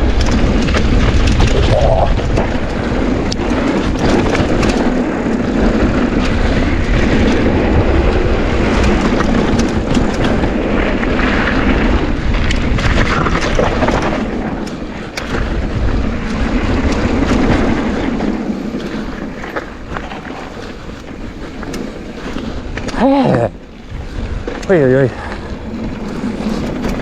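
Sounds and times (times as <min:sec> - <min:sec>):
bike rattling and clacking: 0:00.0 - 0:27.0
tyres rumbling on dirt: 0:00.0 - 0:27.0
wind buffeting microphone: 0:00.0 - 0:27.0.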